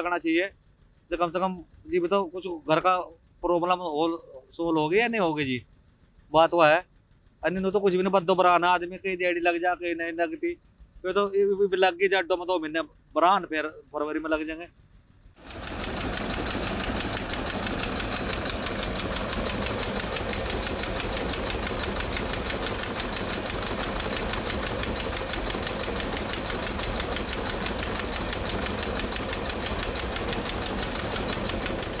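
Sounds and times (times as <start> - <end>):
engine knocking steadily: 0.0 - 32.0.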